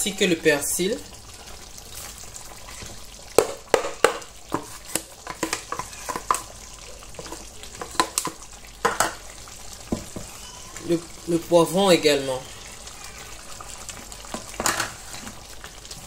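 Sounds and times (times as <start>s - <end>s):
stew simmering: 0.0s - 16.0s.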